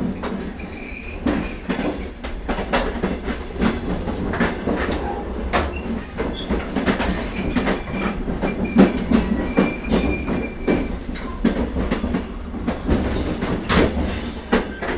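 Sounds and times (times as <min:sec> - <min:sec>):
train rumbling over rails: 0:00.0 - 0:14.9
wheels clacking over rail joints: 0:00.0 - 0:14.9.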